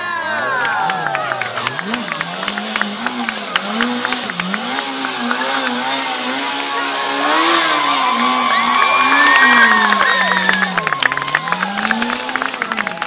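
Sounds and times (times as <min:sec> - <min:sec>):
onlookers shouting and cheering: 0:00.0 - 0:13.0
motorcycle engine revving: 0:00.7 - 0:13.0.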